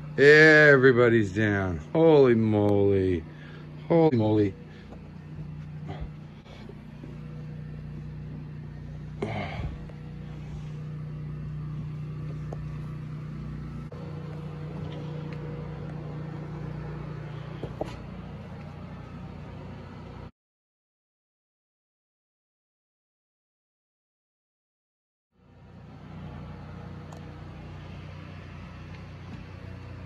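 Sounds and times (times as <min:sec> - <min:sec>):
low mechanical hum: 0:00.0 - 0:20.3, 0:25.4 - 0:30.0.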